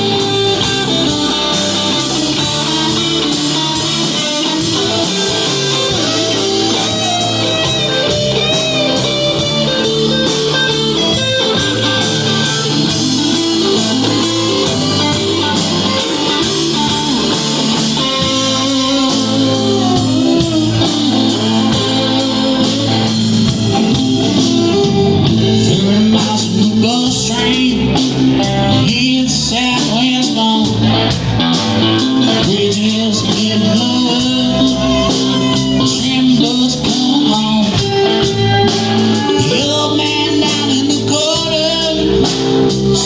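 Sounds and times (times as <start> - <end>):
bass guitar: 0.0 - 43.0
lead guitar: 0.0 - 43.0
steady drumbeat: 0.0 - 43.0.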